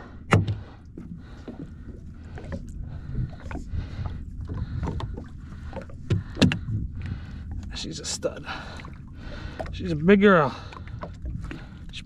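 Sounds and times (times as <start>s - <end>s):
water splashing around boat: 0.0s - 12.0s.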